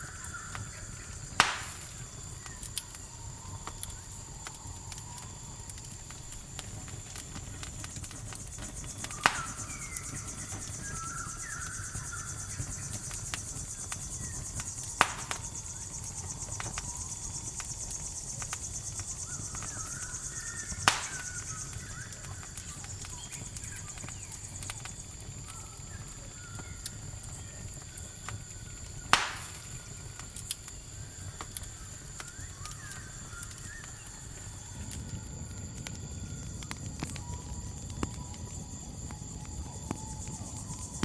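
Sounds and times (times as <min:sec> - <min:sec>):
campfire crackling: 0:00.0 - 0:41.0
crickets chirring: 0:00.0 - 0:41.0
loud sharp fire pops: 0:00.0 - 0:41.0.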